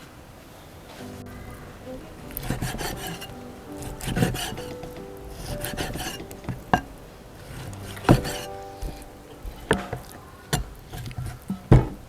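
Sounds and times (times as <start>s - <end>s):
soft background music: 1.0s - 12.0s.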